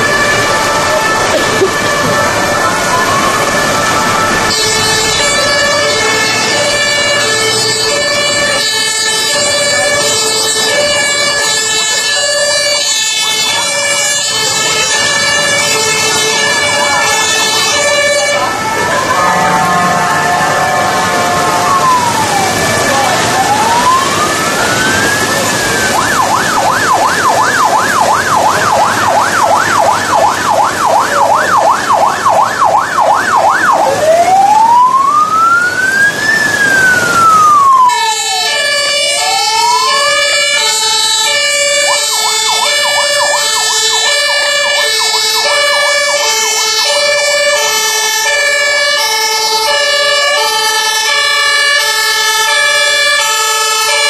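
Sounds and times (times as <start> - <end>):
electronic siren wailing and yelping: 0.0 - 54.0
two-tone sirens: 0.0 - 54.0.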